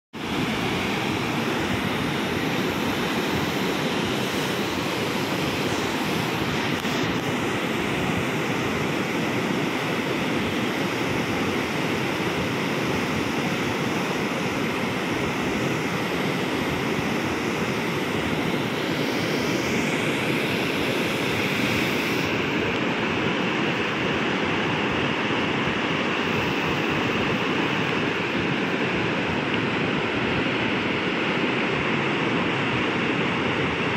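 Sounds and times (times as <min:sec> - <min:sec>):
whitewater rushing: 0:00.2 - 0:33.9.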